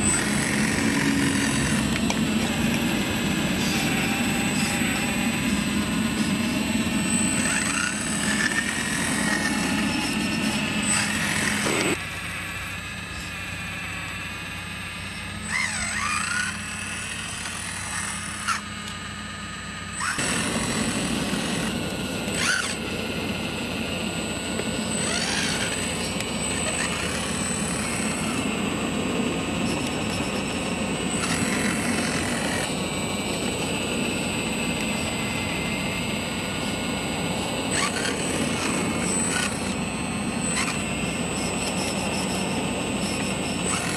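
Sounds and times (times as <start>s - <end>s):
short rising and falling squeals: 0.0s - 12.0s, 15.4s - 18.7s, 19.9s - 43.9s
excavator mechanical hum: 0.0s - 43.9s.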